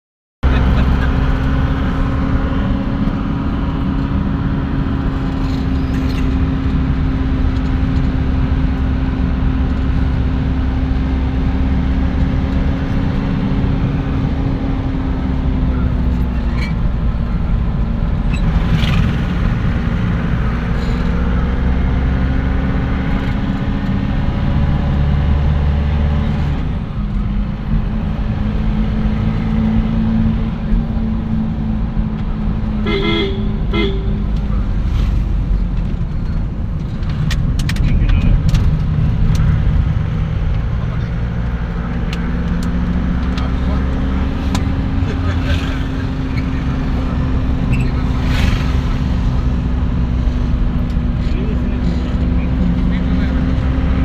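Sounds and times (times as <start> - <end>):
vehicle engine running: 0.4 - 54.0.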